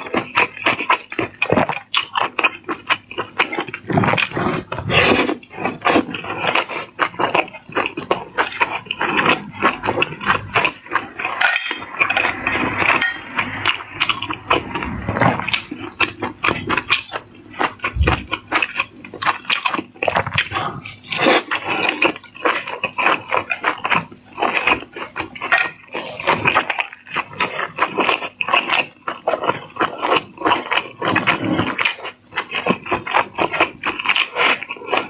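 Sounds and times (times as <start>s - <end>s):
wet chewing and mouth smacking: 0.0s - 35.0s.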